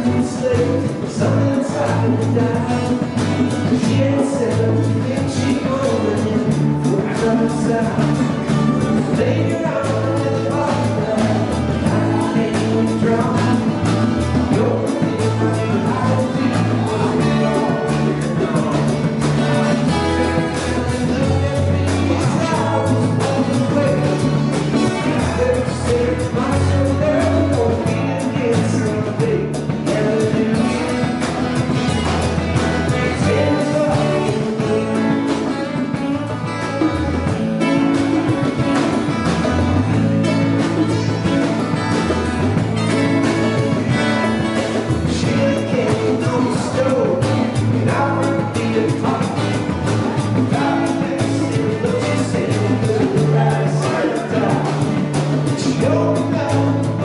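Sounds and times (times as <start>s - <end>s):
bass line: 0.0s - 57.0s
congas: 0.0s - 57.0s
strummed acoustic guitars: 0.0s - 57.0s.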